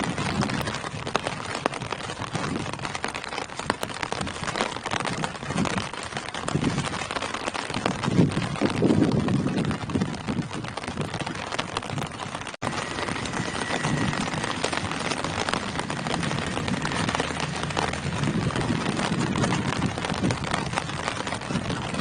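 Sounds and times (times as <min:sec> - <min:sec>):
rain on foliage: 0:00.0 - 0:22.0.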